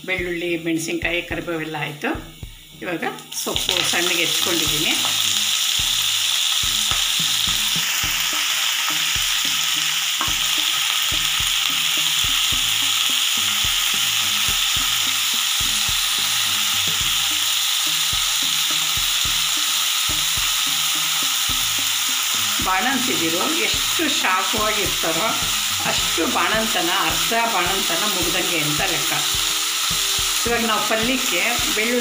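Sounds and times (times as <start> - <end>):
leaves sizzling in hot ghee: 0.0 - 32.0.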